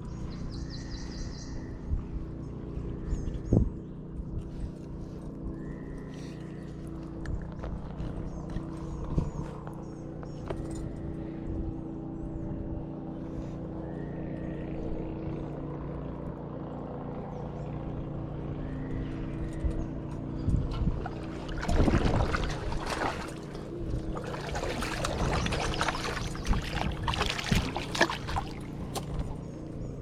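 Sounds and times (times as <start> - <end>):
motor hum: 0.0 - 30.0.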